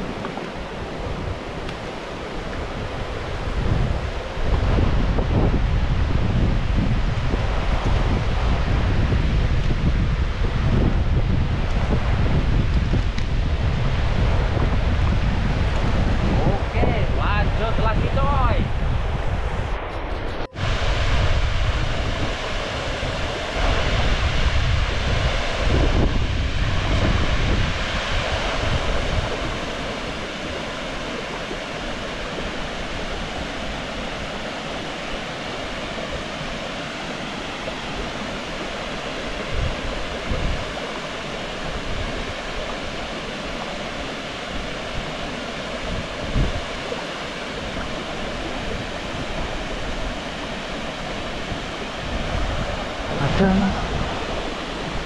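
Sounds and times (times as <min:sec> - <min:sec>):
water rushing over a weir: 0:00.0 - 0:19.5, 0:20.4 - 0:55.0.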